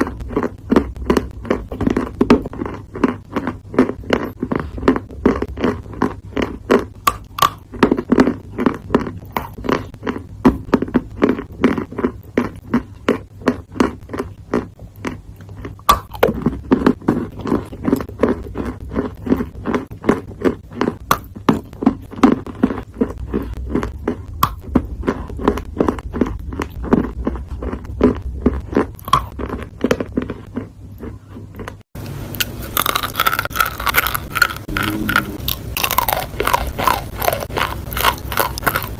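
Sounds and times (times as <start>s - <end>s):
person chewing something crunchy: 0.0s - 38.9s.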